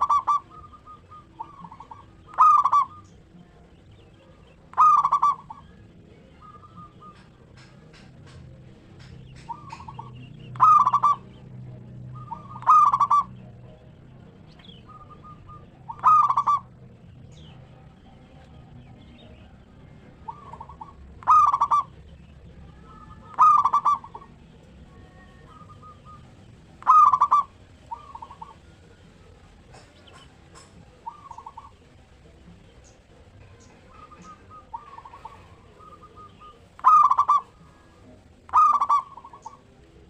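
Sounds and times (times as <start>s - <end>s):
dove cooing song: 0.0s - 40.0s.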